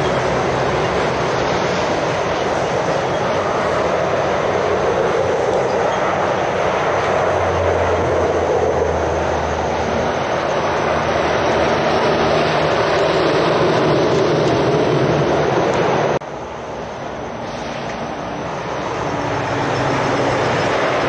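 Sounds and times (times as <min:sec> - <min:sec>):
truck engines: 0:00.0 - 0:21.0.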